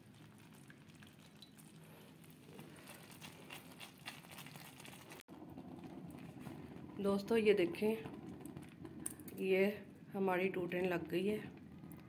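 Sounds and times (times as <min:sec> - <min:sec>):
syrup crackling and bubbling: 0:00.0 - 0:12.0.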